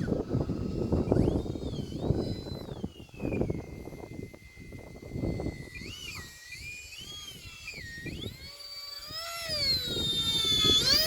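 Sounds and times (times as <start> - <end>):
electric fan motors whining: 0.0 - 11.0.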